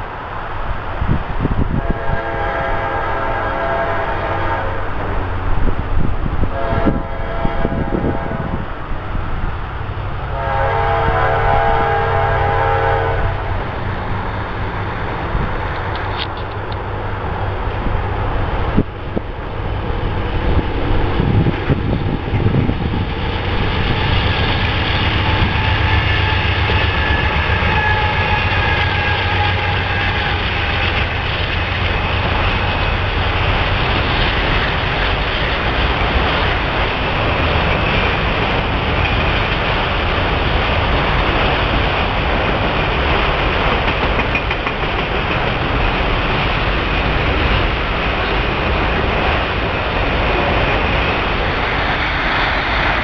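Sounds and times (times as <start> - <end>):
diesel locomotive engine hum: 0.0 - 53.0
train wheels rumbling on rails: 0.0 - 53.0.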